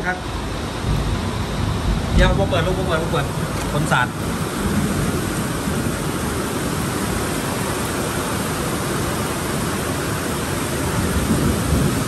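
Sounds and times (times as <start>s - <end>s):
wind-driven heavy rain: 0.0s - 12.0s.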